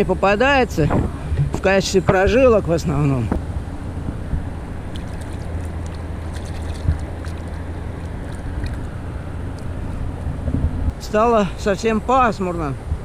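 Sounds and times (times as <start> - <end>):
river rushing: 0.0 - 10.4
wind buffeting microphone: 0.0 - 13.0.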